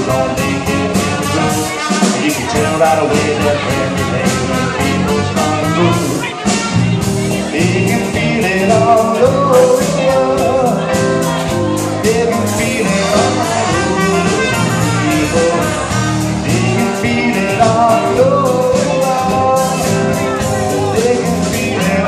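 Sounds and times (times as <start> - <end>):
drum kit beat: 0.0 - 22.0
electric guitar: 0.0 - 22.0
keyboard: 0.0 - 22.0
lead vocal singing: 0.0 - 22.0
trumpet: 0.0 - 22.0.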